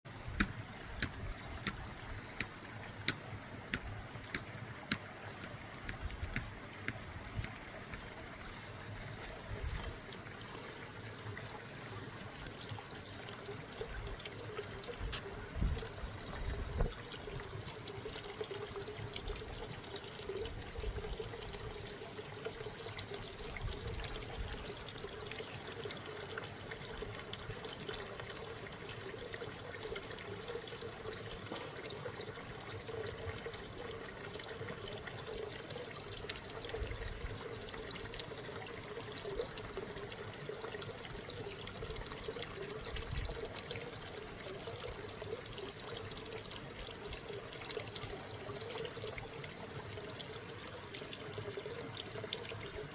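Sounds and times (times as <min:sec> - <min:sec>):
water trickling and pouring: 0:00.1 - 0:52.9.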